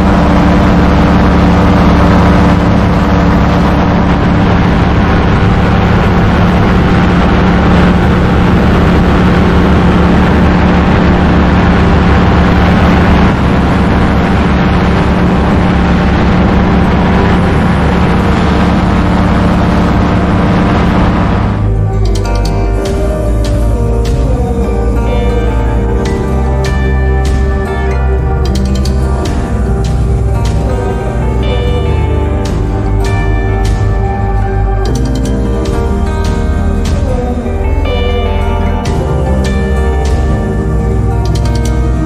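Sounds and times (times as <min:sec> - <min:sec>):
engine and propeller buzzing drone: 0:00.0 - 0:42.0.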